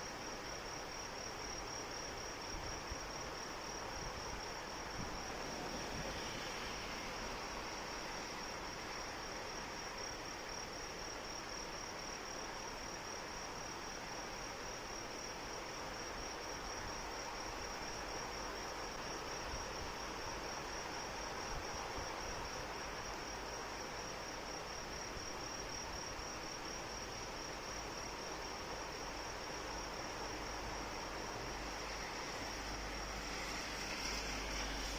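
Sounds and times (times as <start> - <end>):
crickets trilling: 0.0 - 34.9
steady rain: 0.0 - 34.9.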